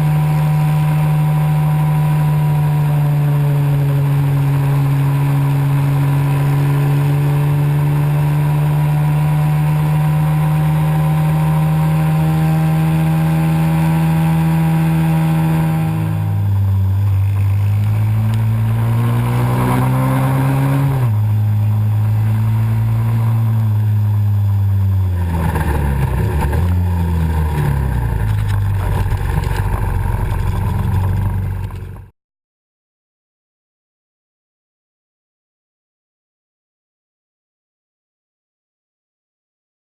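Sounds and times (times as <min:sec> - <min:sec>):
pit bike engine revving: 0:00.0 - 0:32.1.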